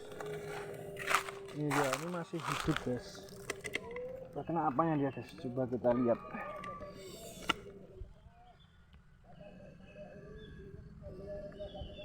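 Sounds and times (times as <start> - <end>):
dove cooing: 0.0 - 8.4, 9.1 - 12.0.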